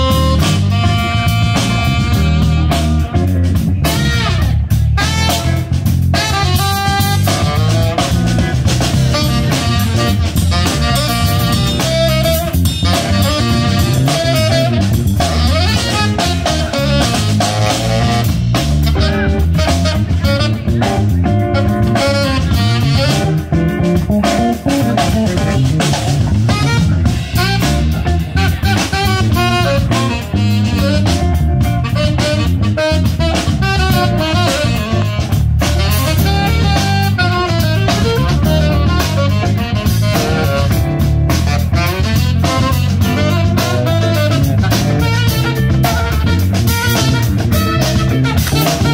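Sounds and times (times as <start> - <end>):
drum kit groove: 0.0 - 48.9
electric bass: 0.0 - 48.9
saxophone melody: 0.0 - 48.9.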